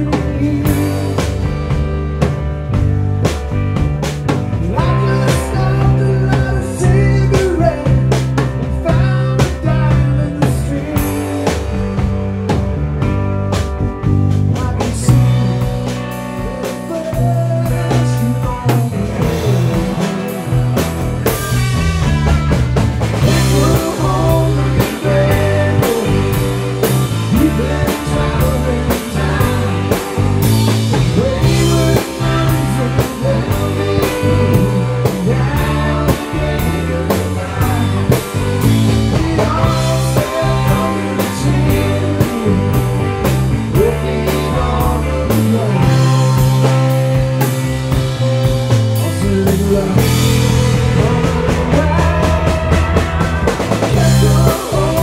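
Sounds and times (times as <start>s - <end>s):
drum kit: 0.0s - 55.0s
electric bass: 0.0s - 55.0s
electric guitars: 0.0s - 55.0s.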